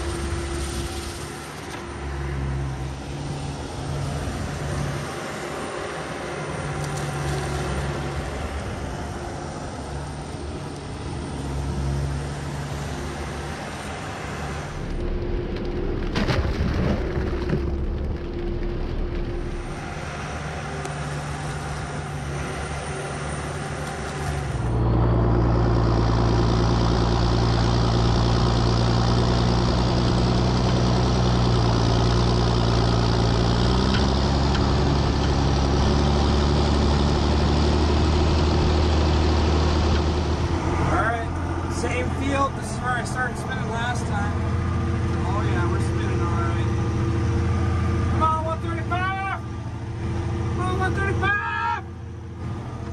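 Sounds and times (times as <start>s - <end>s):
farm machine engine running: 0.0s - 52.9s.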